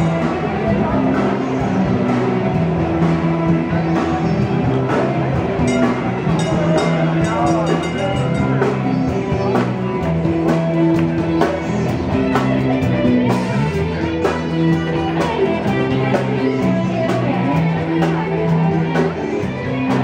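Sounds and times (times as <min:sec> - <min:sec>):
drum kit beat: 0:00.0 - 0:20.0
electric guitars: 0:00.0 - 0:20.0.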